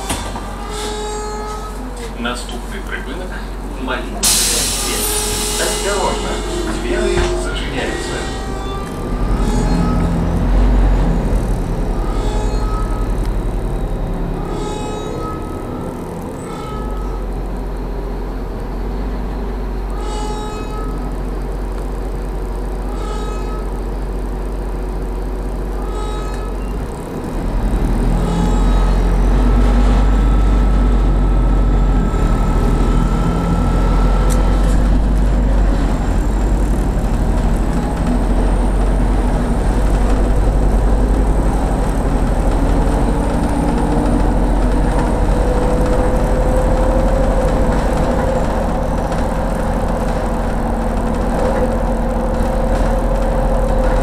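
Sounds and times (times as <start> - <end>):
bus engine: 0.0 - 54.0.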